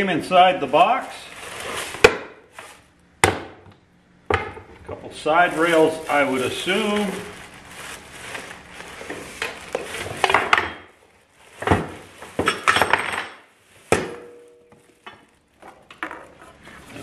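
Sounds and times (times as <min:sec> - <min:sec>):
plastic wrap rustling: 0:00.0 - 0:03.0, 0:05.1 - 0:17.0.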